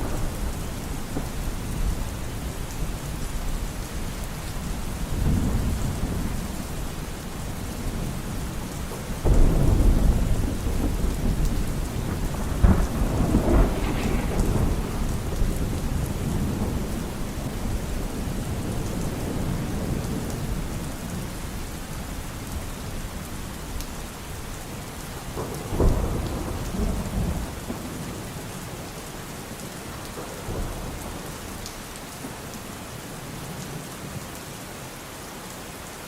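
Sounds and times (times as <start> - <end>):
thunder rumbling: 0.0 - 31.6
steady rain: 0.0 - 36.0.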